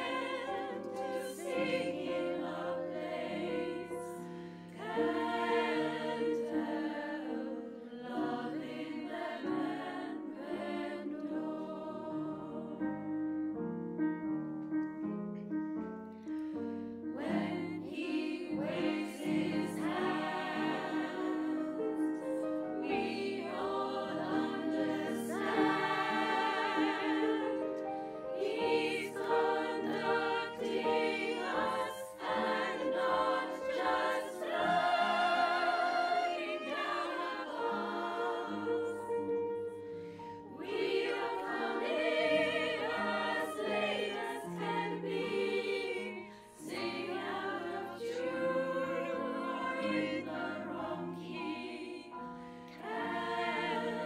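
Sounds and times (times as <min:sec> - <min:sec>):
women's choir singing in harmony: 0:00.0 - 0:13.6, 0:16.9 - 0:54.0
piano accompaniment: 0:00.0 - 0:54.0.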